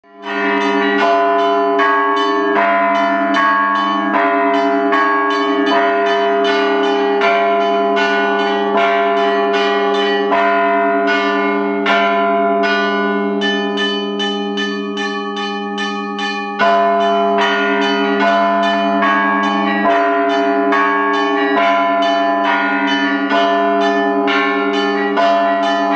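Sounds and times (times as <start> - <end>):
hum of large bells: 0.0 - 25.9
small church bells ringing: 0.0 - 25.9.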